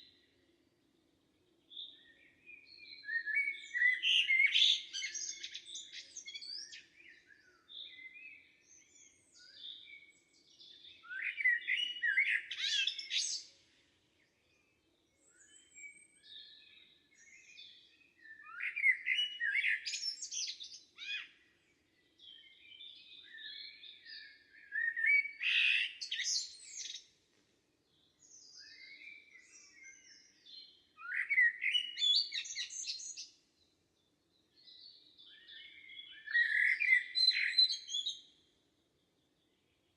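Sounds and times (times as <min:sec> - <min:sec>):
bird singing loud phrase: 0:01.7 - 0:13.5, 0:15.2 - 0:21.4, 0:22.2 - 0:27.1, 0:28.0 - 0:33.4, 0:34.4 - 0:38.5.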